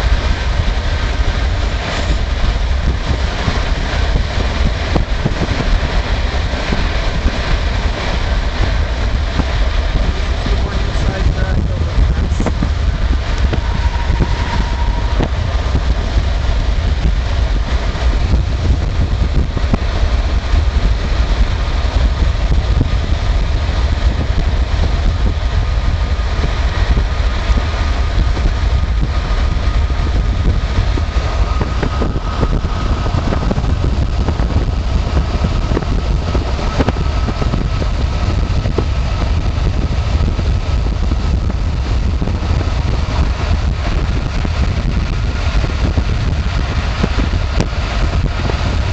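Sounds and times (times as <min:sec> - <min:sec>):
car road noise rumble: 0:00.0 - 0:48.9.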